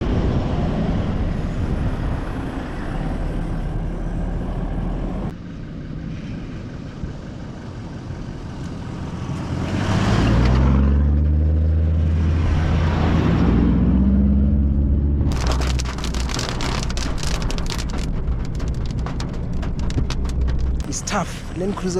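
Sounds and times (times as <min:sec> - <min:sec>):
off-road vehicle engine under load: 0:01.0 - 0:21.9.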